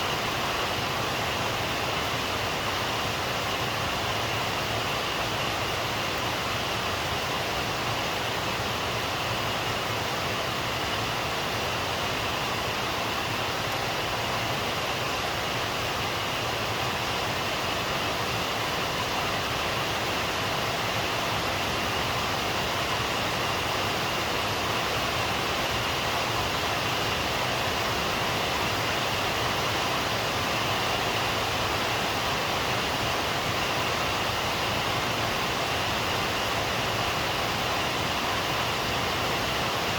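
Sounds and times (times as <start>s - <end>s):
steady rain downpour: 0.0s - 39.9s.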